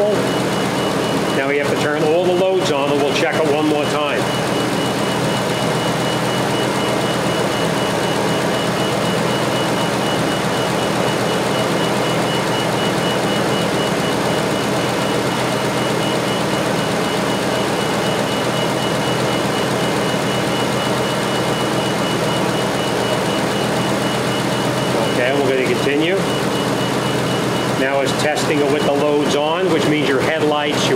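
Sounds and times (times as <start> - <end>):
faint rapid high-pitched beeping: 0.0 - 30.9.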